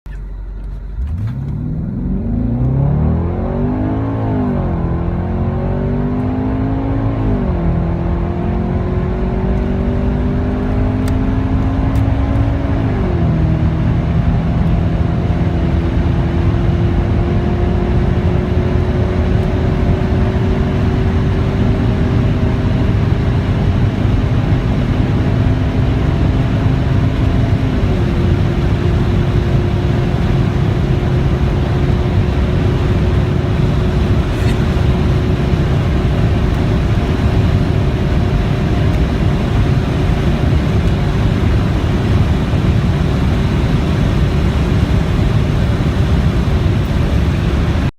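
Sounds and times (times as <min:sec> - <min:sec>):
car engine accelerating: 0:00.1 - 0:47.9
wind and tyre noise: 0:00.1 - 0:47.9.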